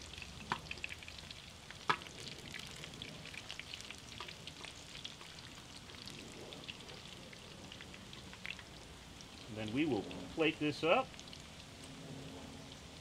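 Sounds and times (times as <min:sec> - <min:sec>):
fries sizzling in oil: 0:00.0 - 0:13.0.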